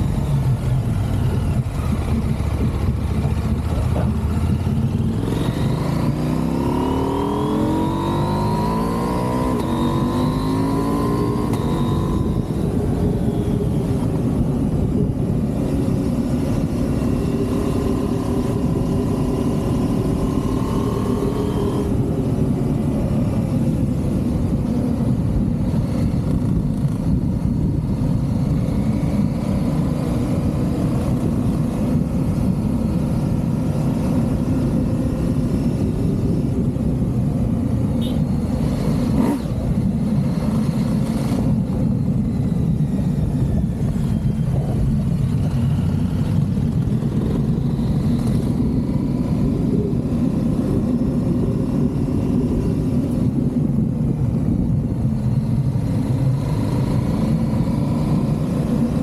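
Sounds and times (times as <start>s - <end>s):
motorcycle engine accelerating: 0.0s - 59.0s
wind noise: 0.0s - 59.0s.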